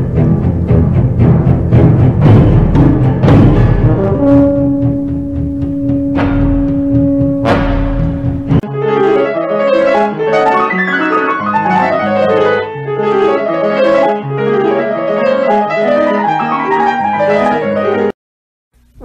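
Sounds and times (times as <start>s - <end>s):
upright piano melody: 2.7s - 18.1s.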